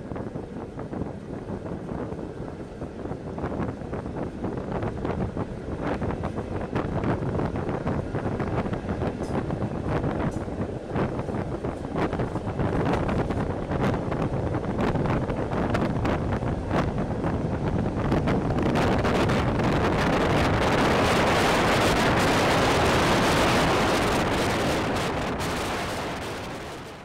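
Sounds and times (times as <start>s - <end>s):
train running noise: 0.0s - 27.0s
wind rushing over microphone: 0.0s - 27.0s.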